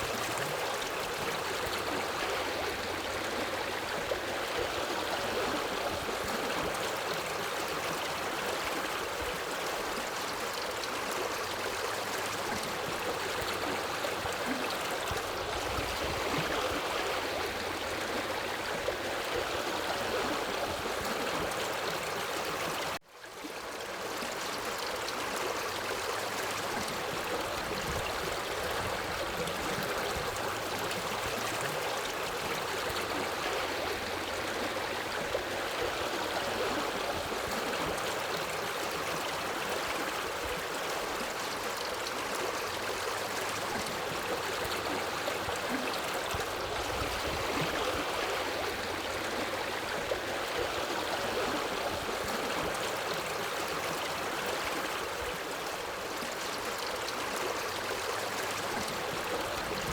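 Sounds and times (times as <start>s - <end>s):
river water running over rocks: 0.0s - 59.9s.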